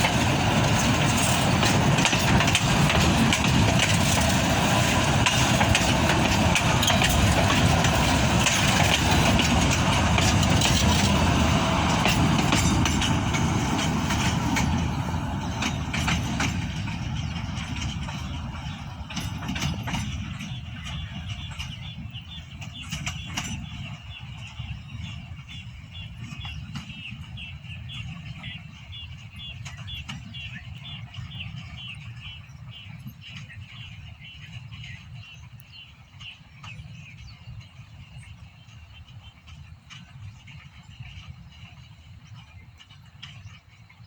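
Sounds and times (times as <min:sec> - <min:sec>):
train rumbling past: 0:00.0 - 0:44.0
train wheels clanking: 0:00.0 - 0:44.0.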